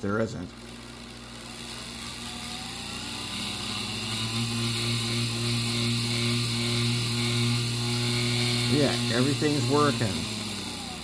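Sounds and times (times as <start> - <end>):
electric motor humming and whining: 0.0 - 11.0.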